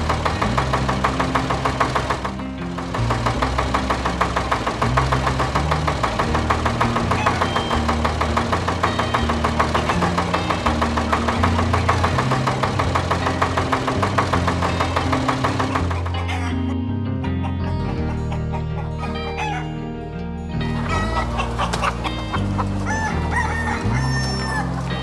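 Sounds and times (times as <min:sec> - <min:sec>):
cartoon tractor engine chugging: 0:00.0 - 0:19.7, 0:20.6 - 0:25.0
background music with bass line: 0:00.0 - 0:25.0.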